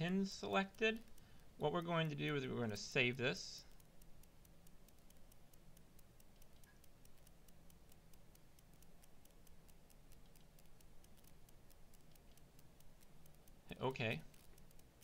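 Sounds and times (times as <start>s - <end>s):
faint low hum: 0.0s - 15.0s
faint regular ticking: 0.0s - 15.0s.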